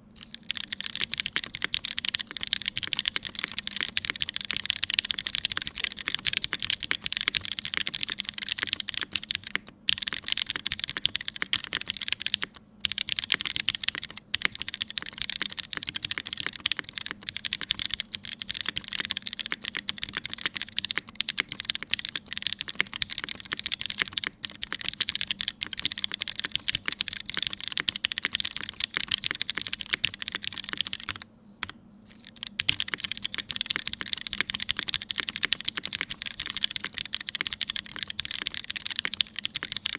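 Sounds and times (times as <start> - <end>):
typing on mechanical keyboard: 0.2 - 39.9.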